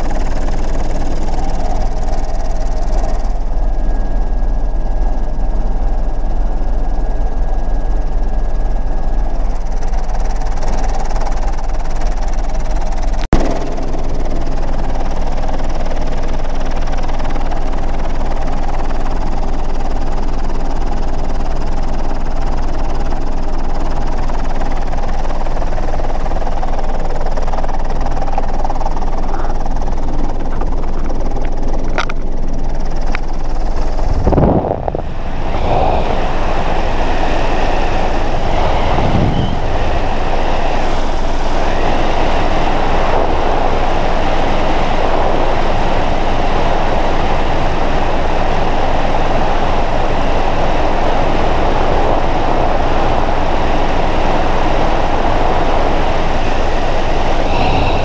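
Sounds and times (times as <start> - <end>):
rushing wind: 0.0 - 12.0, 13.3 - 58.0
aircraft engine droning: 0.0 - 58.0.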